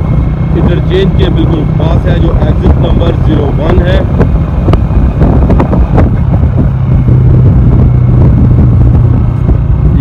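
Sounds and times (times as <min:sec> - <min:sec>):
motorcycle engine running: 0:00.0 - 0:10.0
wind noise on microphone: 0:00.0 - 0:10.0.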